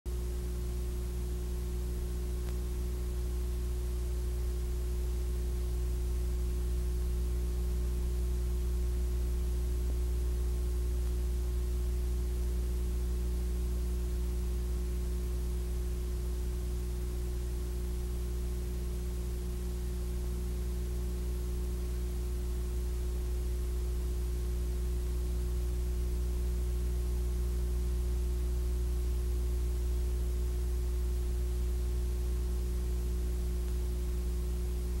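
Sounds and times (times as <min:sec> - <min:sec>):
electrical mains hum: 0:00.1 - 0:35.0.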